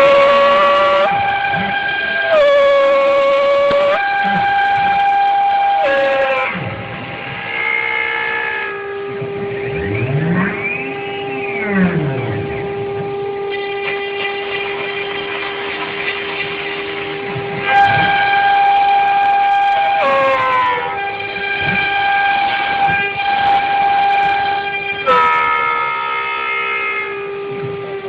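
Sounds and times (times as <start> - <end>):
router spindle high whine: 0.0 - 28.0.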